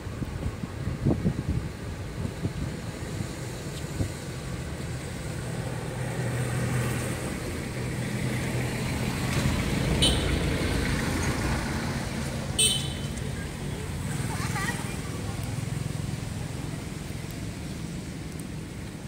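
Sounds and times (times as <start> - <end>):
vehicle engine hum: 0.0 - 19.0.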